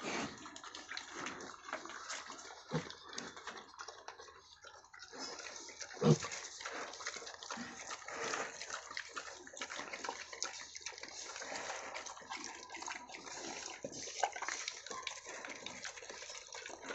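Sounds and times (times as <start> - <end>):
piglets slurping and chewing: 0.0 - 16.9.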